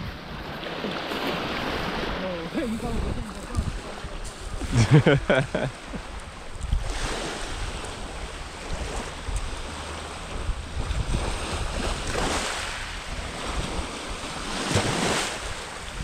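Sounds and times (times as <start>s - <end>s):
small waves washing onto beach: 0.0s - 16.0s
wind buffeting microphone: 0.0s - 16.0s.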